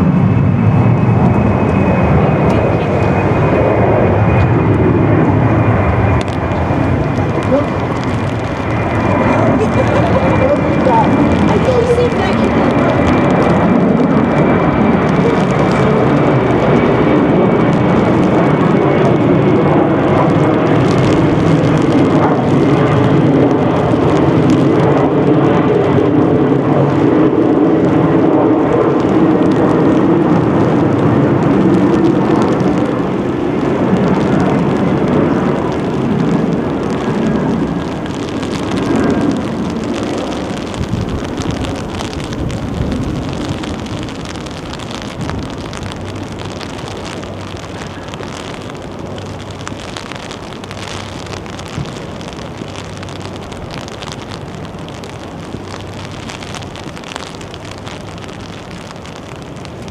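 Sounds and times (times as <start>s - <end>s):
jet aircraft passing overhead: 0.0s - 59.9s.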